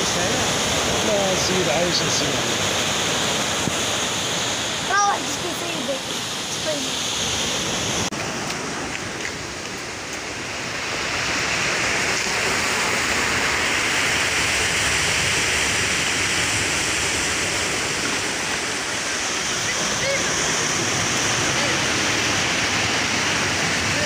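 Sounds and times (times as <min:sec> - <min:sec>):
surf washing on rocky shore: 0:00.0 - 0:24.0.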